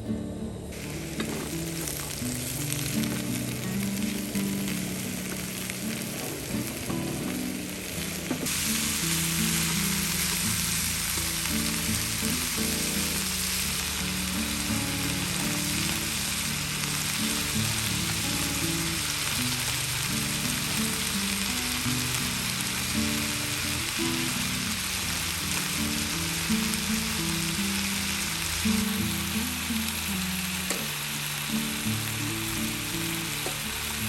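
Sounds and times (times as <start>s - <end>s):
food sizzling in a frying pan: 0.6s - 34.0s.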